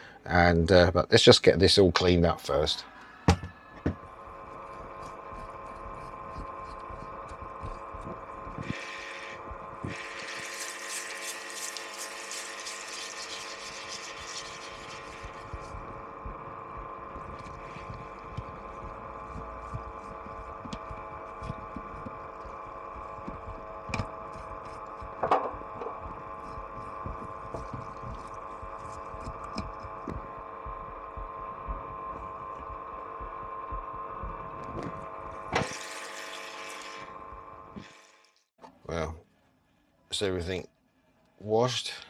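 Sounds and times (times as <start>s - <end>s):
machine hum: 2.6s - 38.2s.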